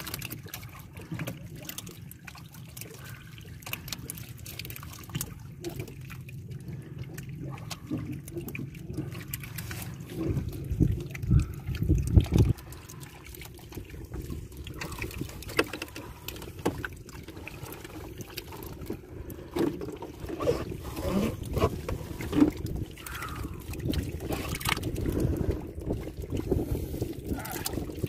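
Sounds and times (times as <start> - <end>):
water lapping around boat: 0.0 - 28.0
wind: 0.0 - 28.0.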